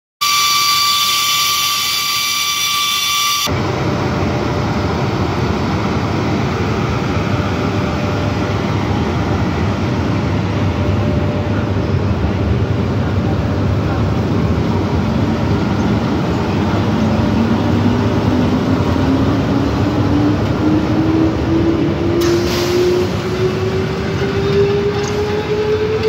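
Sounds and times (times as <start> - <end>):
electric locomotive high-pitched whine: 0.2 - 26.0
train low rumble: 3.5 - 26.0.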